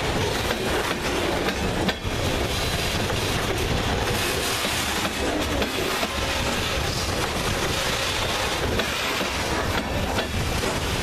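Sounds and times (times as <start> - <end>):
freight train wheels rumbling on rail: 0.0 - 11.0
wheels clicking over rail joints: 0.0 - 11.0.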